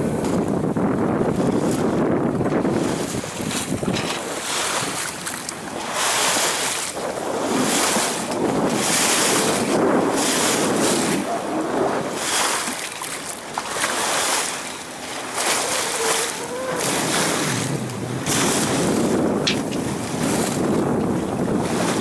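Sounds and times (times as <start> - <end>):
sea washing around boat: 0.0 - 22.0
wind buffeting microphone: 0.0 - 22.0.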